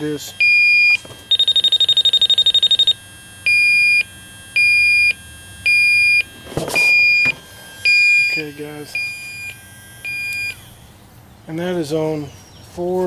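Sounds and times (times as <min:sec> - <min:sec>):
leak detector beeping: 0:00.0 - 0:11.2.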